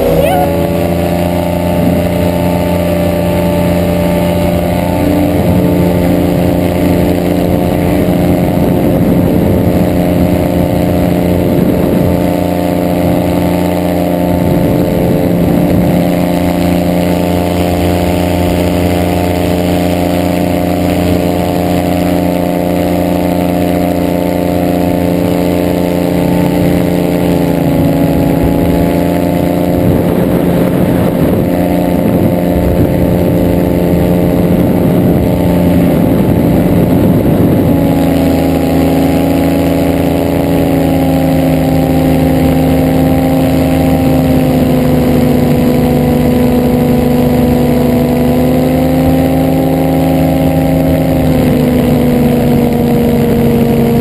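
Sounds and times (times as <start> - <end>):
microlight engine running: 0.0 - 54.0.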